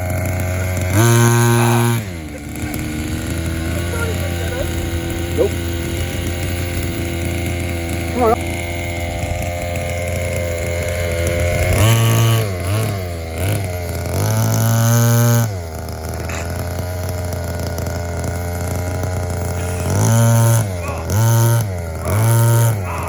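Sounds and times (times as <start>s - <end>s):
two-stroke engine revving: 0.0s - 23.0s.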